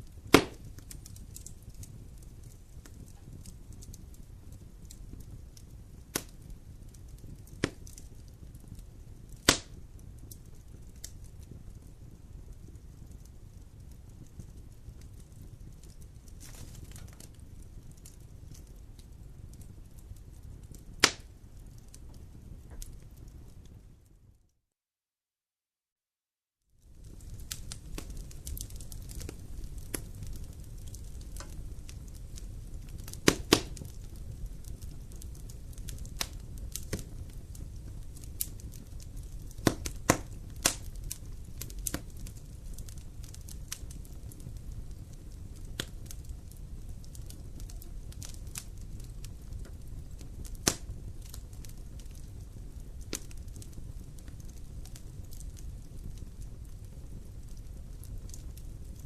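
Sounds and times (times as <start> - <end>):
campfire crackling: 0.0 - 24.3, 26.8 - 59.0
low fire rumble: 0.0 - 24.4, 26.7 - 59.0.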